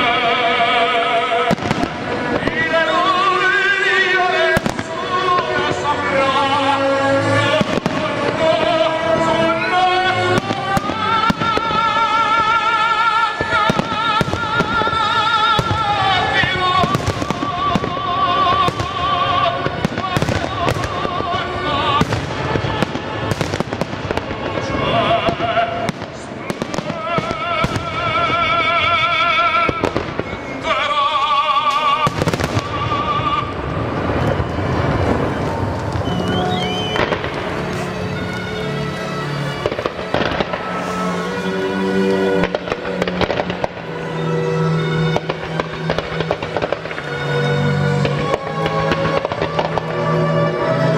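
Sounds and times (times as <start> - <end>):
fireworks bangs: 0.0 - 50.9
music with operatic singing: 0.0 - 50.9.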